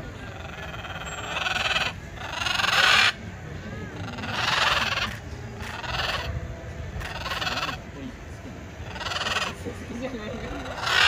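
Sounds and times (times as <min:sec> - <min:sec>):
macaw squawking: 0:00.0 - 0:03.3, 0:03.9 - 0:07.9, 0:08.8 - 0:11.0.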